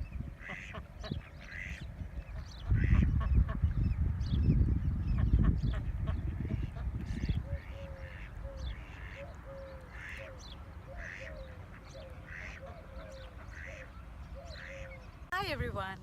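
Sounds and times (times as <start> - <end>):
birds calling: 0.0 - 15.6.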